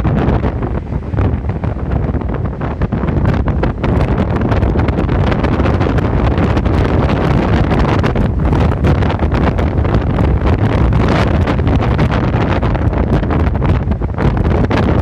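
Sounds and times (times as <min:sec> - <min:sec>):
wind blasting microphone: 0:00.0 - 0:15.0.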